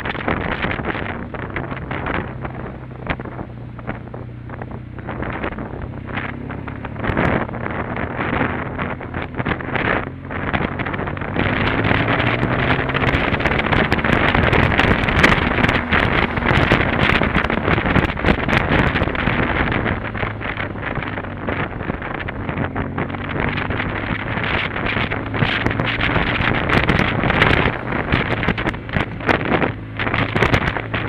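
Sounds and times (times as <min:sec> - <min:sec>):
motorcycle engine drone: 0:00.0 - 0:31.0
wind buffeting microphone: 0:00.0 - 0:31.0.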